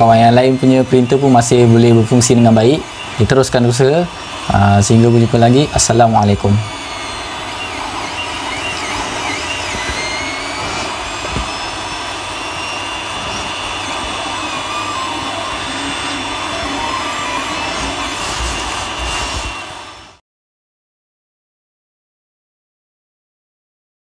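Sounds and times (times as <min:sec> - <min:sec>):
fan whirring: 0:00.0 - 0:20.2
stepper motors whining: 0:00.0 - 0:20.2.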